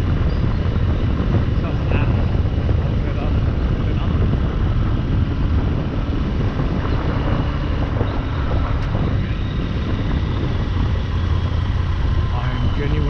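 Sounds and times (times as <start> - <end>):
road noise: 0.0 - 13.0
wind rumble on microphone: 0.0 - 13.0.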